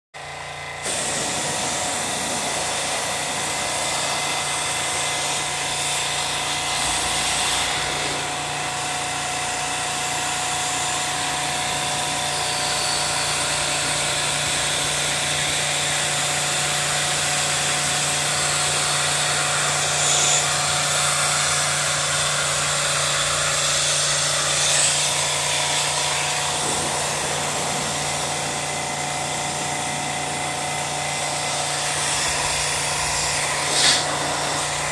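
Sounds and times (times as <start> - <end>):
pressure washer pump humming: 0.2 - 34.9
water jet hissing: 0.8 - 34.9.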